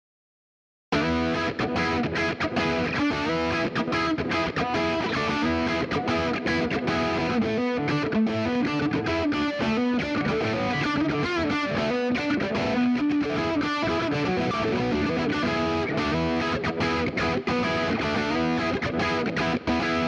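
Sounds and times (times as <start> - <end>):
distorted electric guitar: 0.9 - 20.0.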